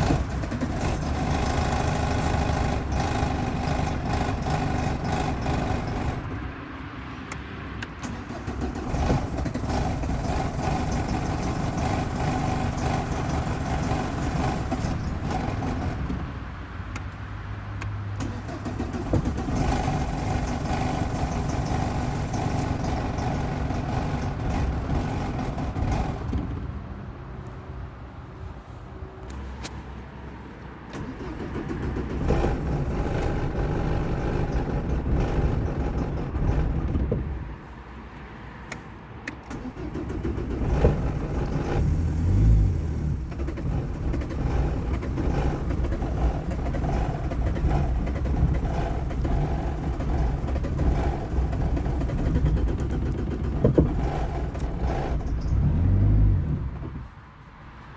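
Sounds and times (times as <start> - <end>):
car engine cranking: 0.0 - 27.6, 30.8 - 57.9.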